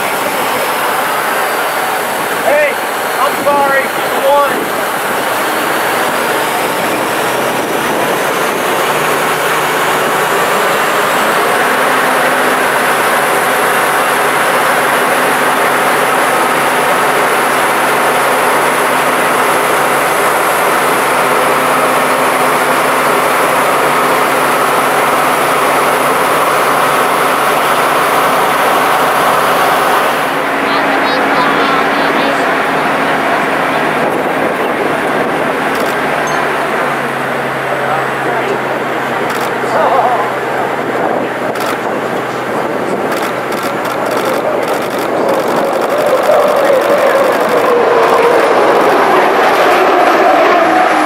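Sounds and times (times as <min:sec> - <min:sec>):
turbine engine with high whine: 0:00.0 - 0:51.0.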